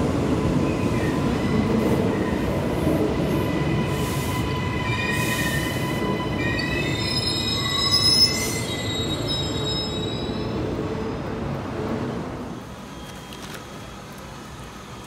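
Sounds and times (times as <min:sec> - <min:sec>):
train wheels squealing on rails: 0:00.4 - 0:11.3, 0:12.4 - 0:15.0.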